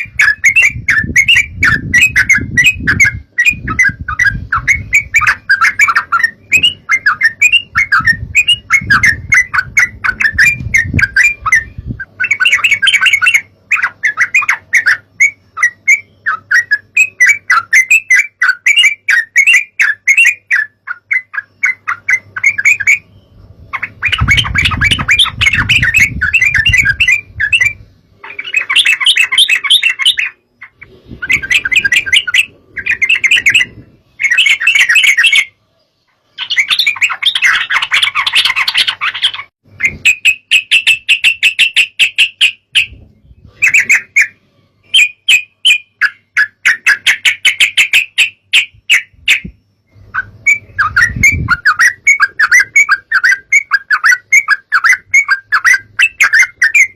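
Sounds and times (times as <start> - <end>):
birds chattering: 0.0 - 56.9.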